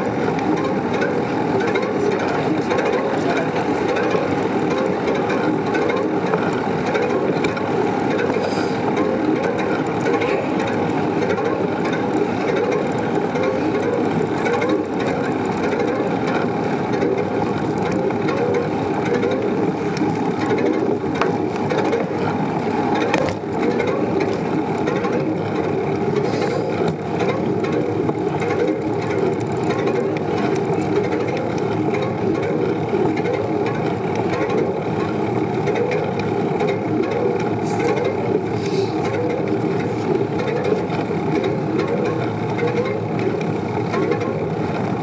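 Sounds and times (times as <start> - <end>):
bicycle rolling on pavement: 0.0 - 45.0.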